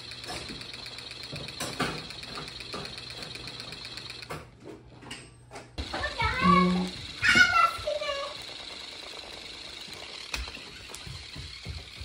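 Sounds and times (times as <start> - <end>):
vibration motor buzzing: 0.0 - 4.4, 5.8 - 12.0.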